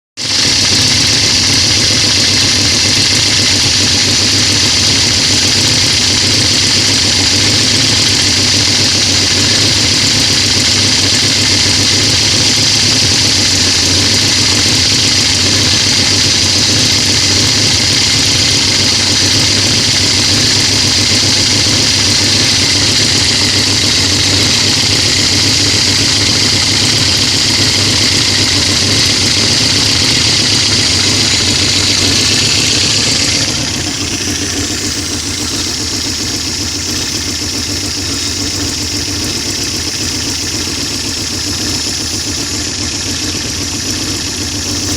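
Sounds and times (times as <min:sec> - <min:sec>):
car engine idling: 0:00.2 - 0:44.9.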